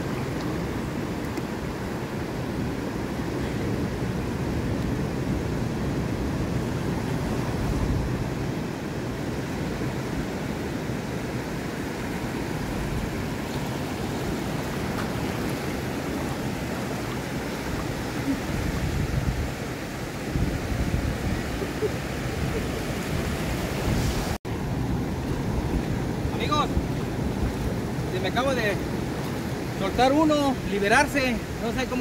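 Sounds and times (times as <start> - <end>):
ocean surf at shoreline: 0.0 - 32.0.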